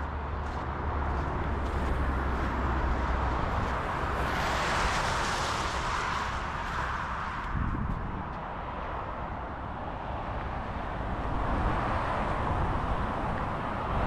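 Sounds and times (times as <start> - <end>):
outdoor rushing noise: 0.0 - 14.0.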